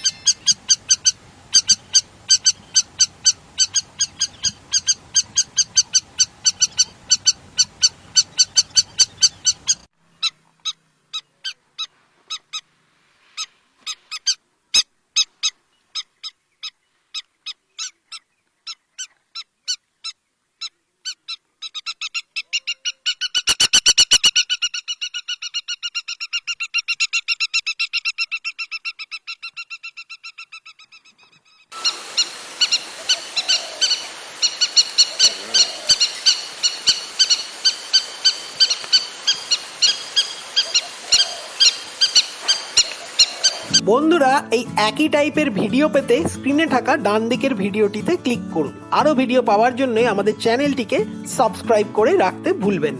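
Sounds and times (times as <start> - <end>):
lapwing calling: 0.0 - 12.7, 13.4 - 52.9.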